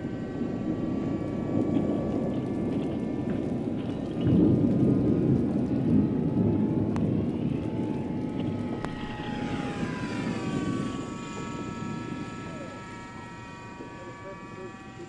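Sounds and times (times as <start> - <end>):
model airplane motor whining: 0.0 - 15.0.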